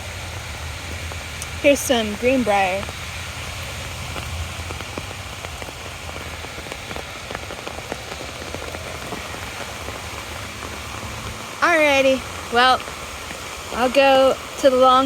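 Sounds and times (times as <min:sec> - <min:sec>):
rain hiss: 0:00.0 - 0:15.0
raindrops ticking: 0:00.0 - 0:15.0.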